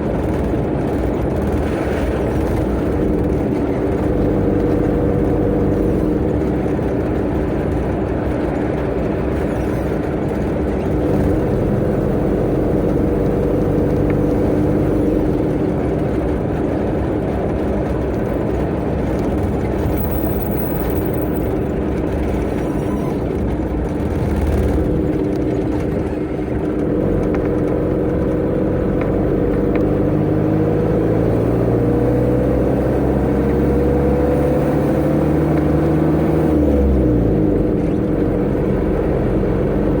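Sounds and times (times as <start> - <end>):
road and tyre noise: 0.0 - 40.0
truck engine running hard: 0.0 - 40.0.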